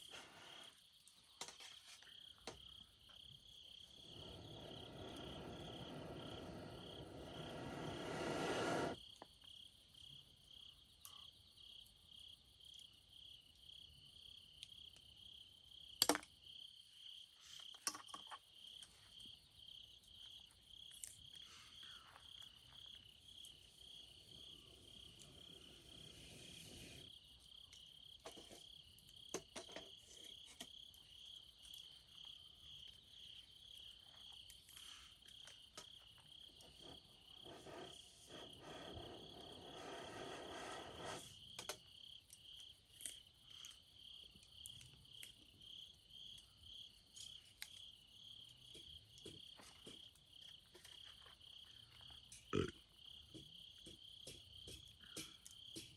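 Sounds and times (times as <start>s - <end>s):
cricket chirping: 0.0s - 55.9s.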